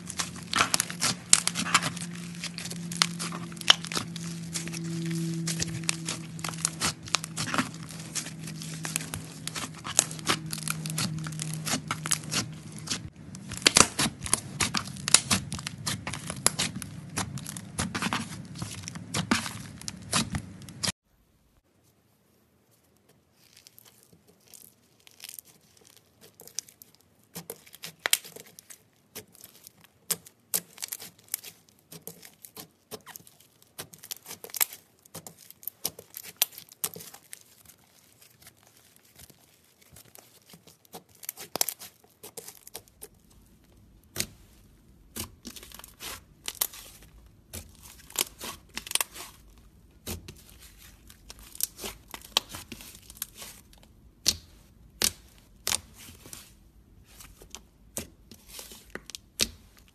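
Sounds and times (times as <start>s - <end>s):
slime crackling and tearing: 0.0s - 21.0s, 23.3s - 59.9s.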